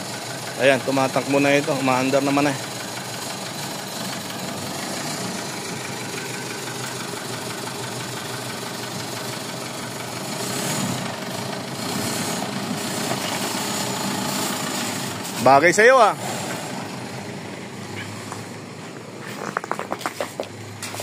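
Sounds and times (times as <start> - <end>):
diesel engine idling with knock: 0.0 - 21.0.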